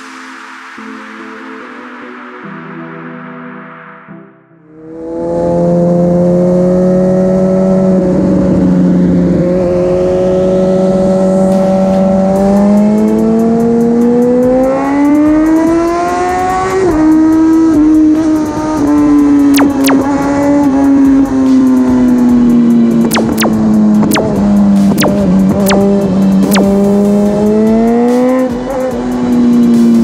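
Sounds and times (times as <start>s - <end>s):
motorcycle engine revving: 4.9s - 30.0s.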